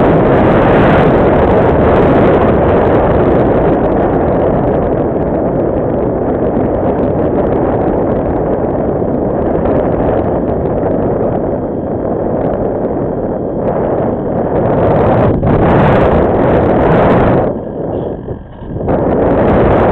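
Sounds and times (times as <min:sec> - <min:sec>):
wind rushing over microphone: 0:00.0 - 0:19.9.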